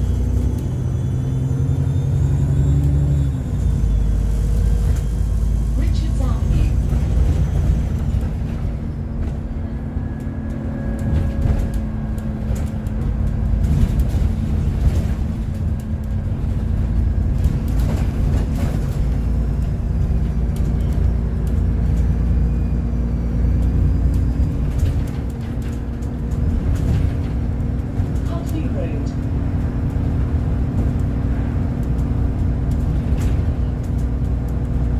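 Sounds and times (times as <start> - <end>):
bus engine rumble: 0.0 - 34.9.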